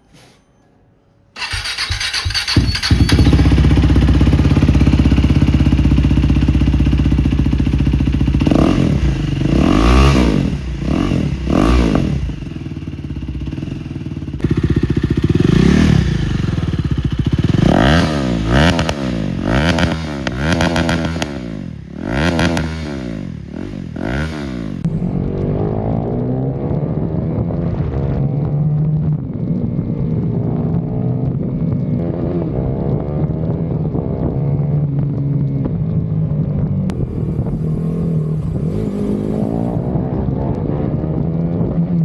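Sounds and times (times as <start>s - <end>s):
motorcycle engine starting and revving: 1.4s - 42.0s.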